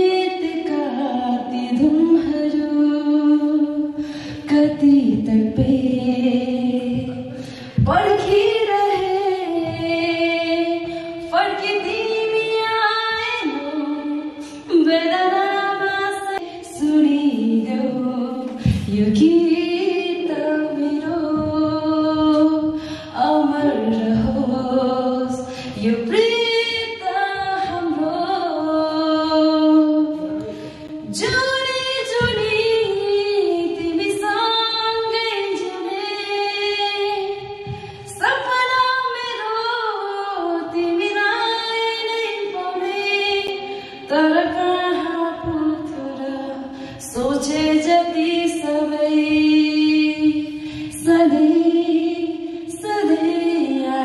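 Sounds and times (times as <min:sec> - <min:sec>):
woman singing into microphone: 0:00.0 - 0:54.0.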